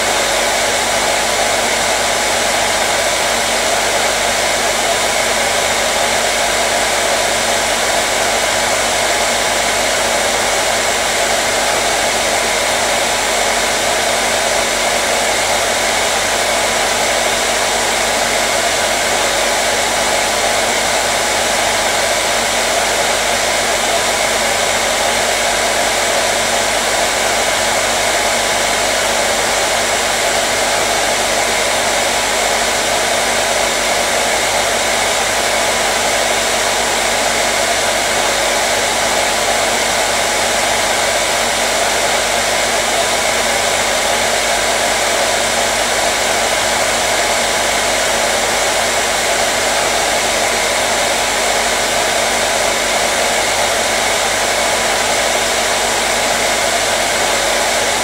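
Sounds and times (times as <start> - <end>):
hair dryer blowing air: 0.0 - 58.0.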